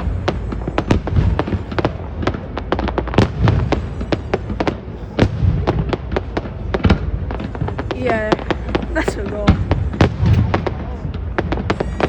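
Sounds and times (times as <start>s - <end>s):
fireworks cracking and banging: 0.0s - 12.0s
low rumble of booms: 0.0s - 12.0s.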